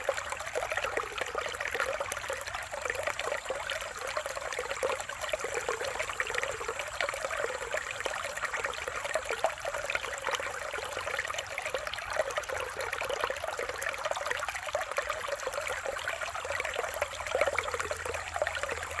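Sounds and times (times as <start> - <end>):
stream burbling over rocks: 0.0 - 19.0.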